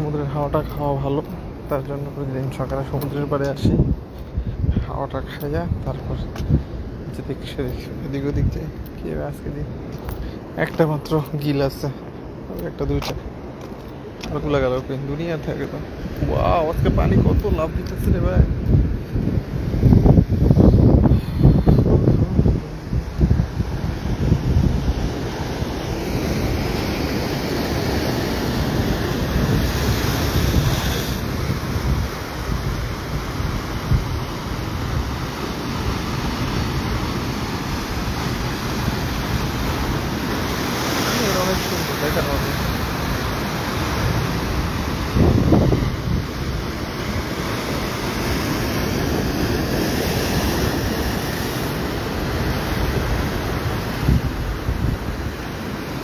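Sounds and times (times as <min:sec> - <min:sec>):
ocean surf breaking on rocks: 0:00.0 - 0:56.0
wind buffeting microphone: 0:00.1 - 0:15.0, 0:15.6 - 0:55.9.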